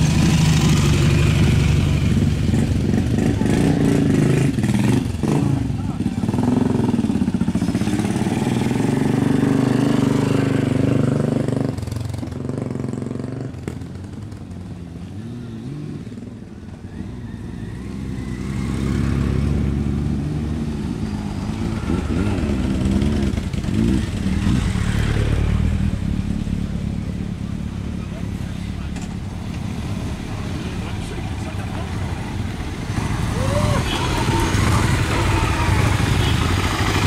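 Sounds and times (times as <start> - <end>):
motorcycles riding past: 0.0 - 37.0.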